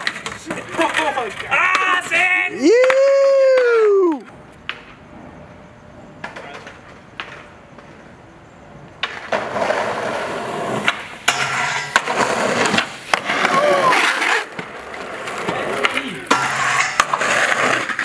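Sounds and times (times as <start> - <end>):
skateboard clacking over cracks: 0.0 - 5.0, 6.2 - 8.1, 8.9 - 18.0
skateboard wheels on concrete: 0.0 - 18.0.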